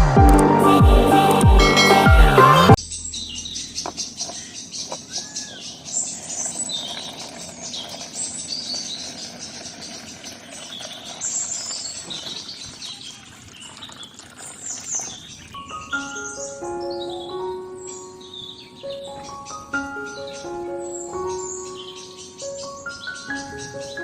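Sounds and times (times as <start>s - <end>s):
small birds chirping: 2.6s - 24.0s.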